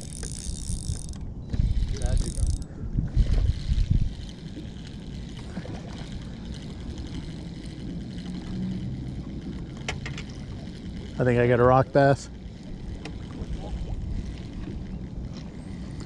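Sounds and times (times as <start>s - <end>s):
spinning reel cranking: 0.0s - 16.0s.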